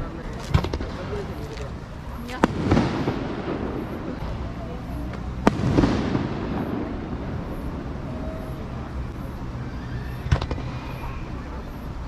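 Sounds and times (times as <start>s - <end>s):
fireworks bangs: 0.0s - 12.0s
low background rumble: 0.0s - 12.0s
rolling rumble: 0.0s - 12.0s.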